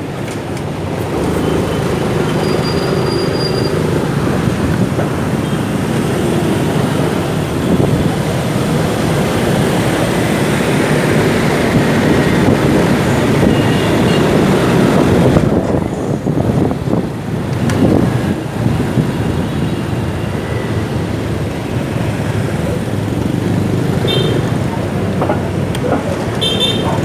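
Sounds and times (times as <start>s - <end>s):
road and traffic noise: 0.0s - 27.0s.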